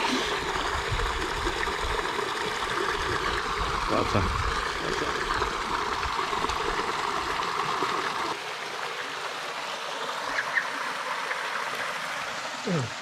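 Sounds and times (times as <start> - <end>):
stream splashing over rocks: 0.0 - 13.0.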